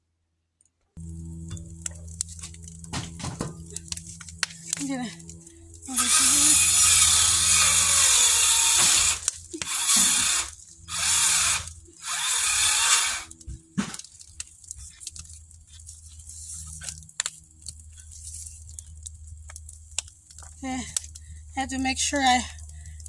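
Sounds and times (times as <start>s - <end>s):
air blown onto a wood fire: 1.0s - 21.7s
fire clicking and knocking: 1.0s - 23.0s.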